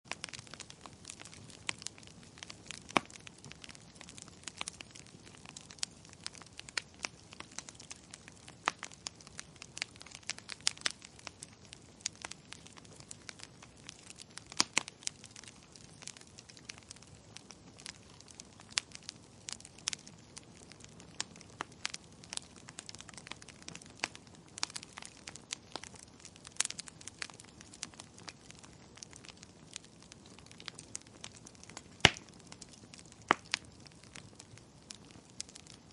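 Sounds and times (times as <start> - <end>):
fire crackling and popping: 0.1 - 35.9
soft hiss of fire: 0.1 - 35.9.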